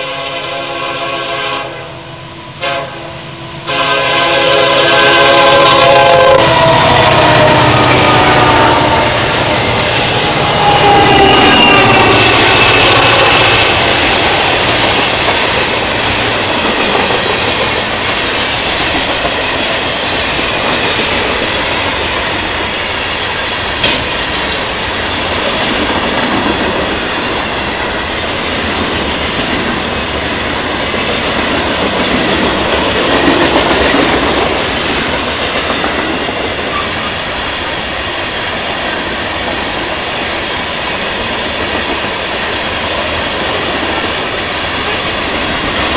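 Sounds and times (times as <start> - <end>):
diesel locomotives passing: 0.0 - 45.9
freight cars rumbling on rails: 2.1 - 45.9.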